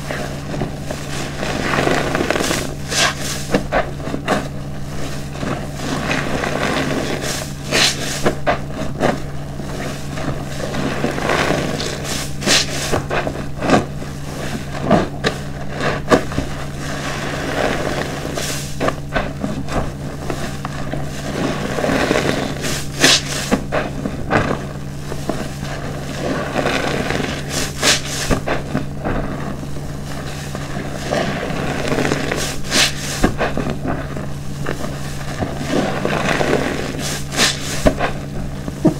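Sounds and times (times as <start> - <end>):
crackling suds: 0.0 - 38.9
soapy sponge squelching: 0.0 - 38.9.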